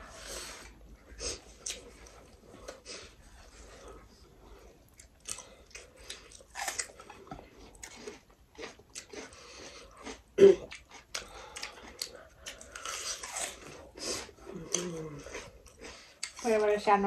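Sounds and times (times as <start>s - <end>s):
people chewing with wet smacks: 0.1s - 17.0s.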